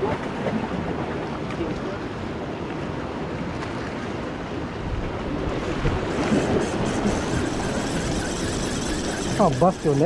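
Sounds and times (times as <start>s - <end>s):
surf washing against rocks: 0.0s - 10.0s.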